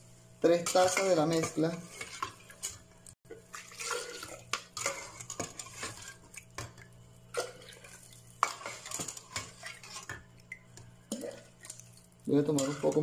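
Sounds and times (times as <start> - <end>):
liquid sloshing: 0.9 - 13.0.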